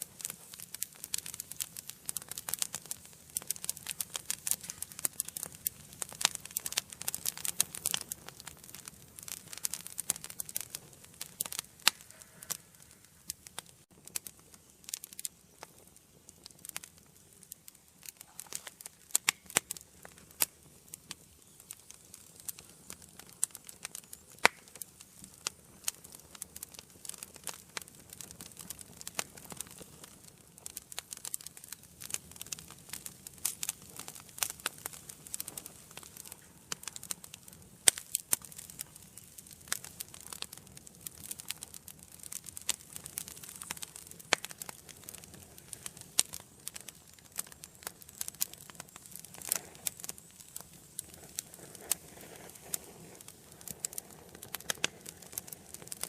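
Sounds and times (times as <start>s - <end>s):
faint hiss: 0.0s - 56.0s
wood fire crackling: 0.0s - 56.0s.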